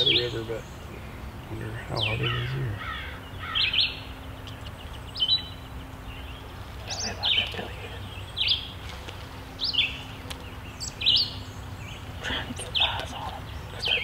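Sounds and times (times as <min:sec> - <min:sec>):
outdoor background noise: 0:00.0 - 0:14.0
songbird calling: 0:00.0 - 0:14.0.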